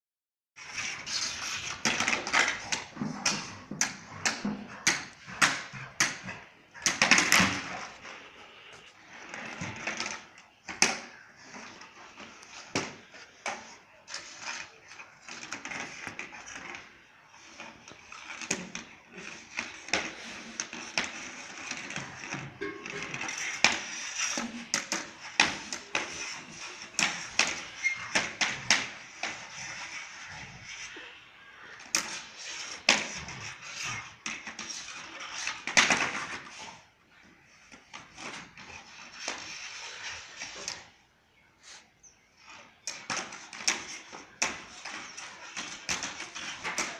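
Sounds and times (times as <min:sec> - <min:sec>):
rubber blade scraping concrete: 0:00.6 - 0:41.0, 0:41.6 - 0:46.9.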